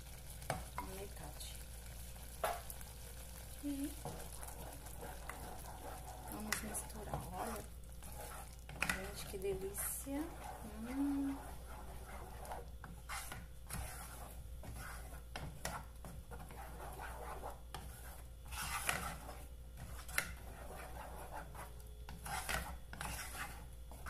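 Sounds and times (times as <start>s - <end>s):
wooden spatula scraping a pot: 3.8s - 24.0s.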